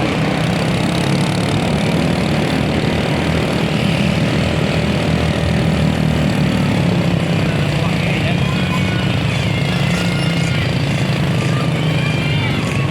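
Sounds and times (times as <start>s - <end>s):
bus diesel engine droning: 0.0s - 12.9s.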